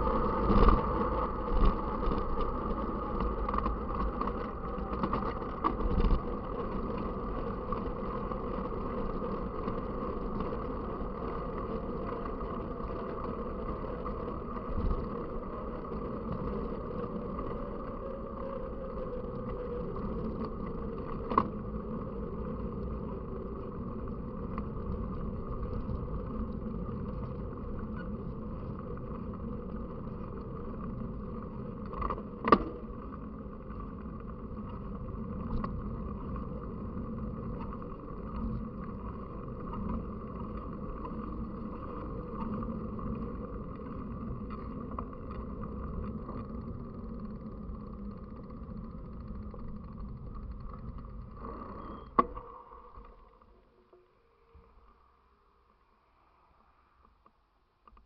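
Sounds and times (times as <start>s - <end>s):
vehicle drone and rush: 0.0s - 56.9s.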